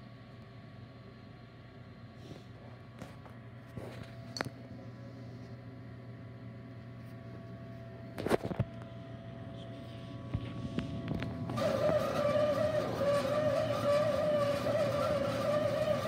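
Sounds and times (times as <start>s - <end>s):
stove blower fan whirring: 0.0s - 16.0s.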